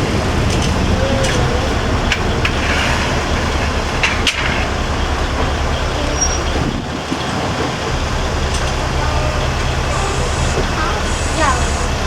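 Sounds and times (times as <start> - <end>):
diesel engine droning: 0.0 - 12.0
train wheels on rails: 0.0 - 12.0.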